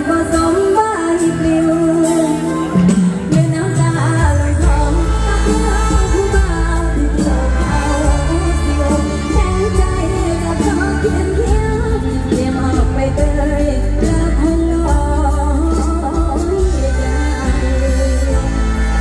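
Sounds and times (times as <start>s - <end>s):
band music: 0.0s - 19.0s
person singing: 0.0s - 19.0s.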